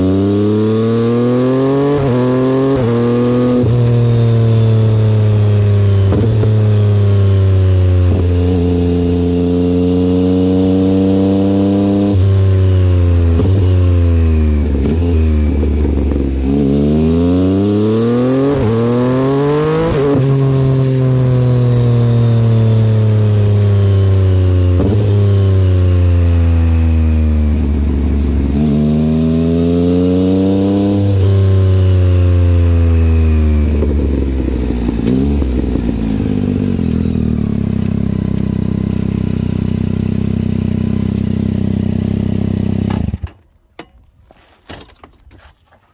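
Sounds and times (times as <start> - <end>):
motorcycle engine revving: 0.0 - 43.4.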